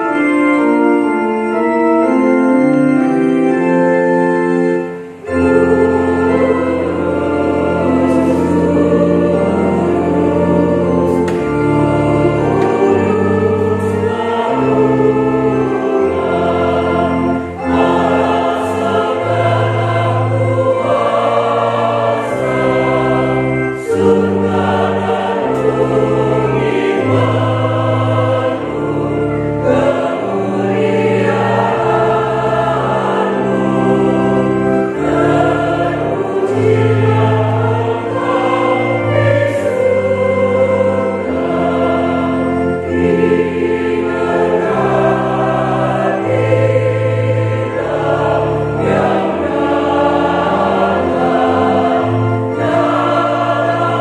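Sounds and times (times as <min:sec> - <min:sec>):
choir singing a hymn in harmony: 0:00.0 - 0:54.0.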